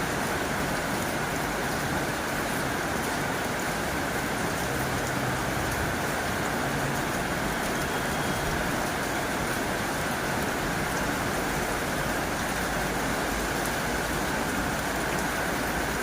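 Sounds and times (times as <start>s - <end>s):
heavy rain on a tin roof: 0.0s - 16.0s.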